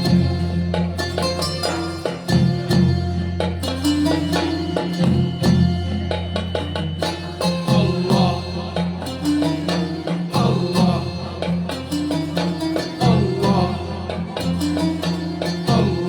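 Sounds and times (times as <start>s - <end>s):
hand drums: 0.0s - 16.0s.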